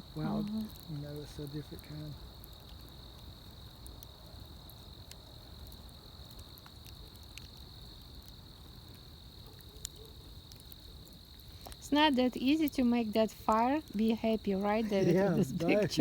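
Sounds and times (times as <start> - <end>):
crickets trilling: 0.0 - 16.0
wood fire popping: 0.0 - 16.0.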